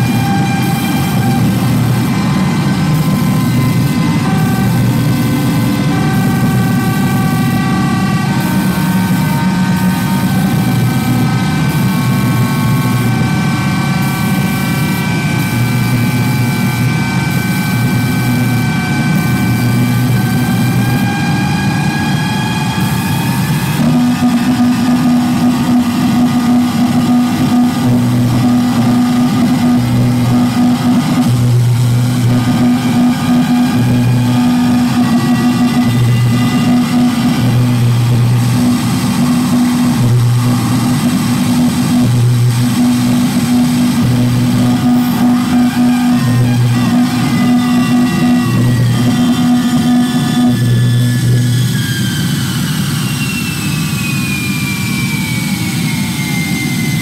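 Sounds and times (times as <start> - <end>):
deep bass tone: 0.0 - 52.1
low hum switching on and off: 0.0 - 53.0
high drone tones: 0.0 - 57.0.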